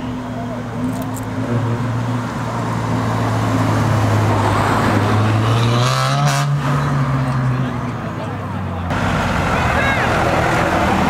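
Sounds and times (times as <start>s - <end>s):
car engine passing: 1.1s - 11.0s.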